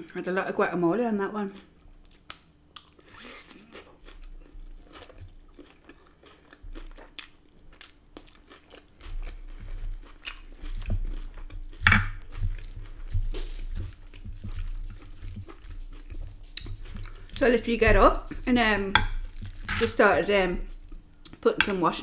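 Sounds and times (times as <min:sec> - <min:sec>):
chewing and crunching salad: 0:01.4 - 0:22.0.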